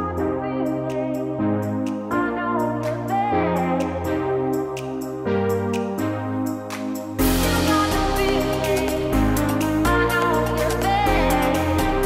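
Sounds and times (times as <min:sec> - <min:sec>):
keyboard music with light beat: 0:00.0 - 0:12.0.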